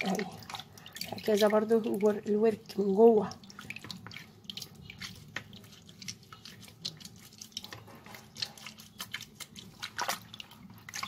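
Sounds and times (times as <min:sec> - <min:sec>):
water splashing in a bowl: 0:00.0 - 0:11.0.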